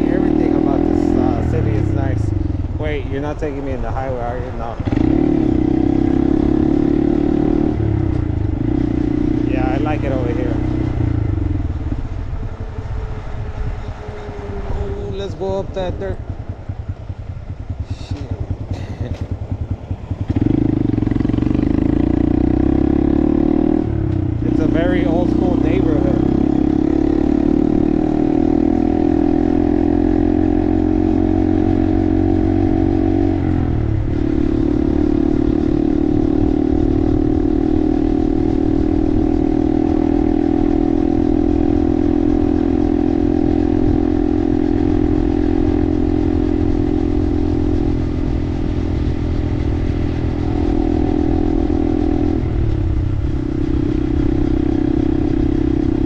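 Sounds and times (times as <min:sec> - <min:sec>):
minibike engine cruising: 0:00.0 - 0:56.0.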